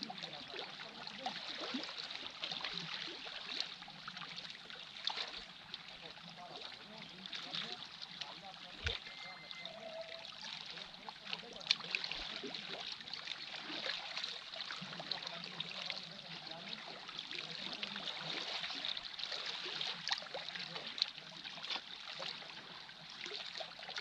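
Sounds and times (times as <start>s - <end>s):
seawater lapping among boulders: 0.0s - 24.0s
small splashes: 0.0s - 24.0s.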